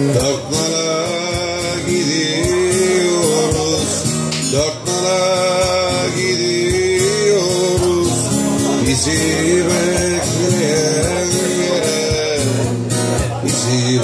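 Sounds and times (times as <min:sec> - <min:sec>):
acoustic guitar strumming: 0:00.0 - 0:14.0
man singing: 0:00.0 - 0:14.0.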